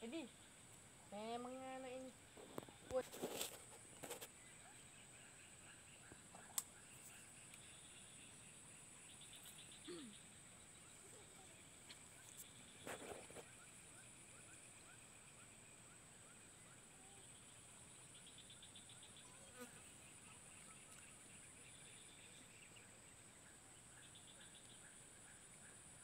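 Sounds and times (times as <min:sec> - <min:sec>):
high-pitched insect chorus: 0:00.0 - 0:26.0
insect trilling chirps: 0:00.0 - 0:26.0.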